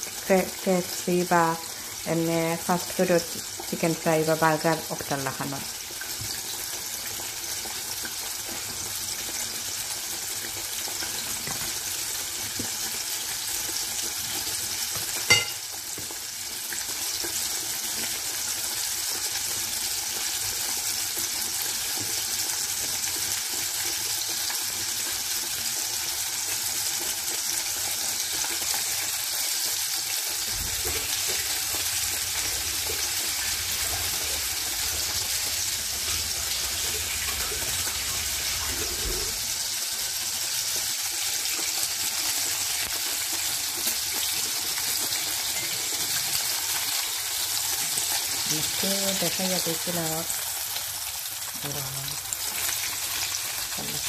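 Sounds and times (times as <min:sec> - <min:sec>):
oil sizzling in a frying pan: 0:00.0 - 0:54.0.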